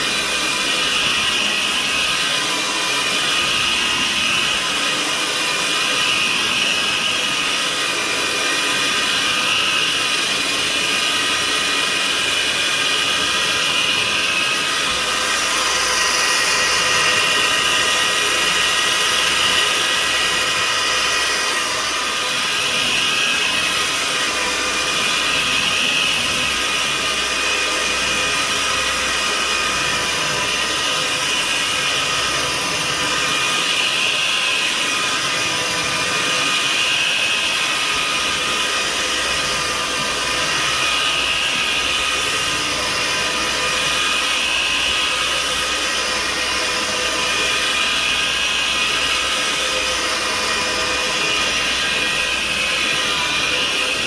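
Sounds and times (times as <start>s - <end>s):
vacuum cleaner running over carpet: 0.0s - 54.0s.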